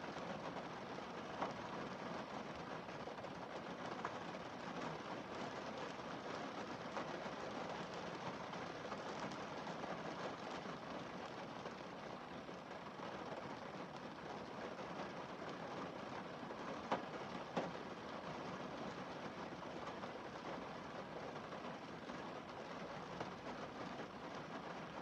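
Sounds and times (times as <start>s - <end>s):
rain on car windscreen: 0.0s - 25.0s.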